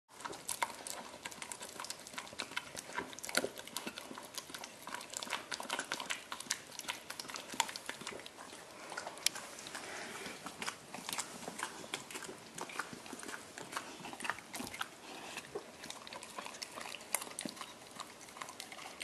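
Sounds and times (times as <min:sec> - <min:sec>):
dog licking metal spoon: 0:00.2 - 0:09.8, 0:10.5 - 0:19.0.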